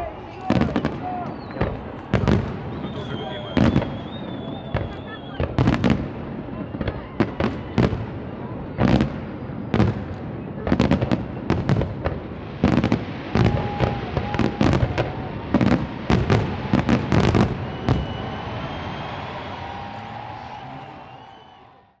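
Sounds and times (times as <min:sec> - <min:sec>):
fireworks bangs: 0:00.0 - 0:21.7.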